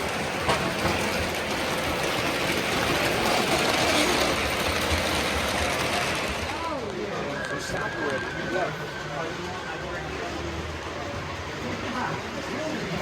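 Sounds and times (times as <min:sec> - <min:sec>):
busy shop background noise: 0:00.0 - 0:13.0.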